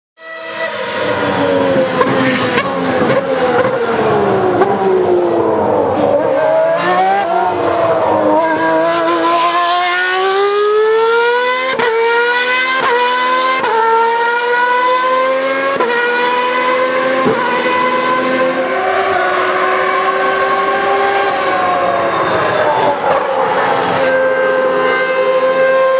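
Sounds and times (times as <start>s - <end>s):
racing engine revving: 0.2s - 25.9s.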